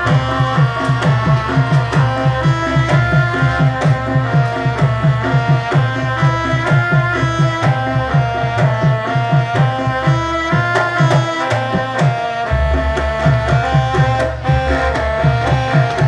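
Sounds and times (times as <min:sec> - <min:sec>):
gamelan ensemble playing: 0:00.0 - 0:16.0.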